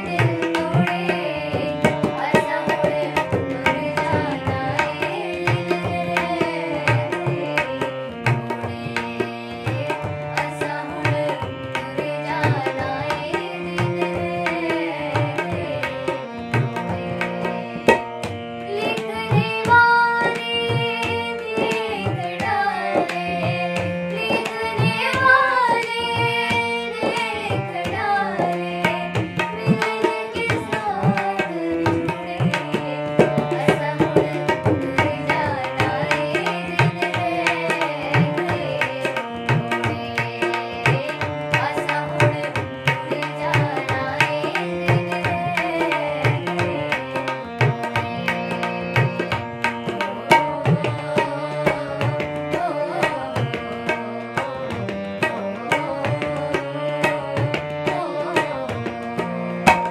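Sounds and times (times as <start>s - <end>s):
harmonium chords: 0.0s - 59.9s
tabla rhythm: 0.0s - 59.9s
women singing: 0.0s - 59.9s.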